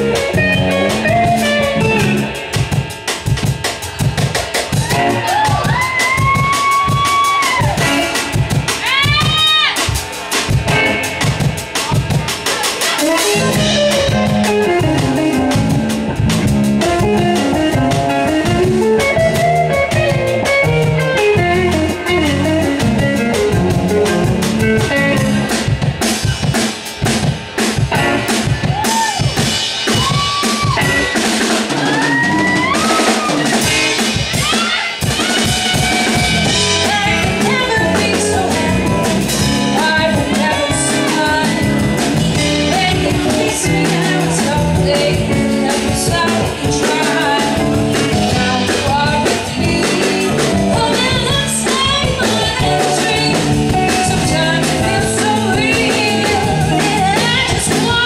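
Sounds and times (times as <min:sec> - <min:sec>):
electric guitar bending notes: 0:00.0 - 0:26.5, 0:27.8 - 0:58.0
drum kit beat: 0:00.0 - 0:58.0
live rock band playing: 0:00.0 - 0:58.0.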